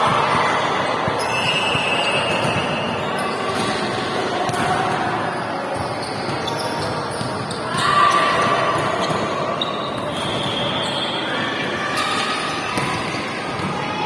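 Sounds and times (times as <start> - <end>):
echoing sports hall din: 0.0 - 14.0.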